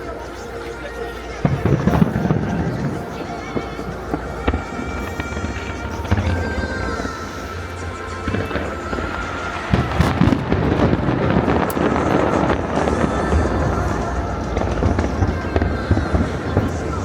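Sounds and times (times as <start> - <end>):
music: 0.0 - 17.0
fireworks bangs: 0.1 - 17.0.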